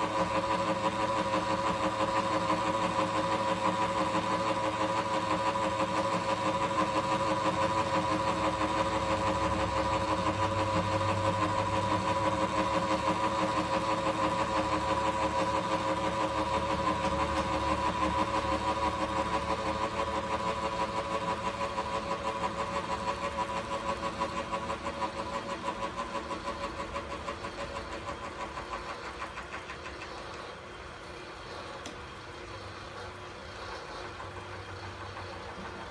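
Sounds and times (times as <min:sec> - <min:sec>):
milling machine running: 0:00.0 - 0:35.9.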